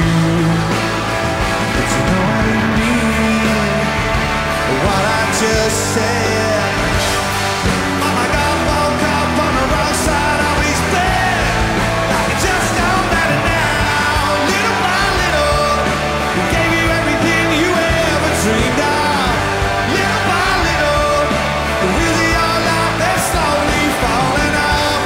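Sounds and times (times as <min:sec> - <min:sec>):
man singing: 0:00.0 - 0:25.0
rock band playing: 0:00.0 - 0:25.0.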